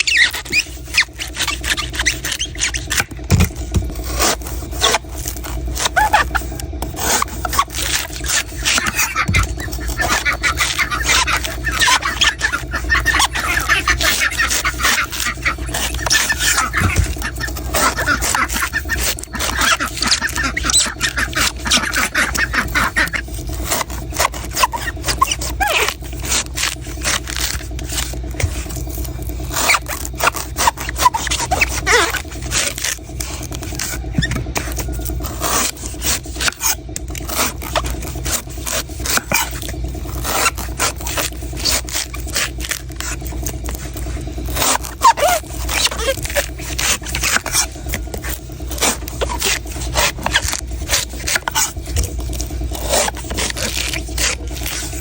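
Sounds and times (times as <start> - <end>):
knife chopping and scraping coconut: 0.0 - 55.0
steady low hum: 0.0 - 55.0.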